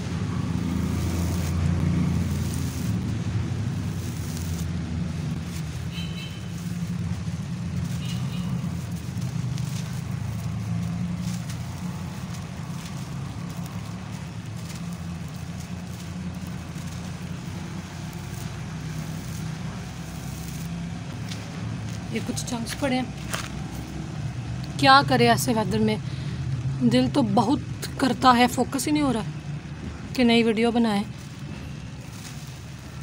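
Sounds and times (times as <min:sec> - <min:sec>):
road traffic rumble: 0:00.0 - 0:33.0.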